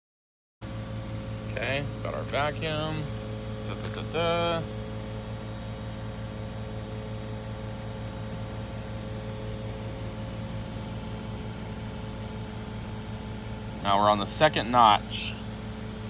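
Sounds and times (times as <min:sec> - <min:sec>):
low mechanical hum: 0:00.6 - 0:16.0.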